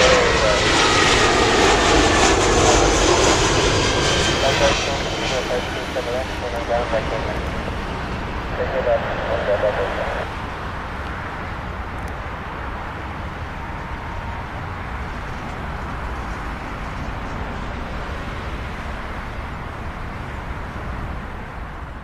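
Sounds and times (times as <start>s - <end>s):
jet engines rushing: 0.0s - 21.9s.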